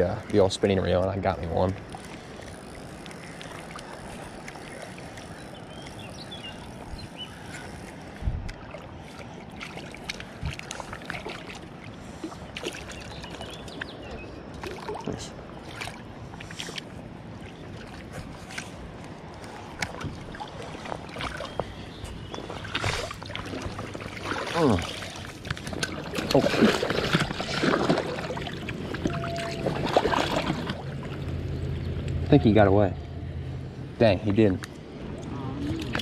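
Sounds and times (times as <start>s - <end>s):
creek water flowing: 0.0s - 36.0s.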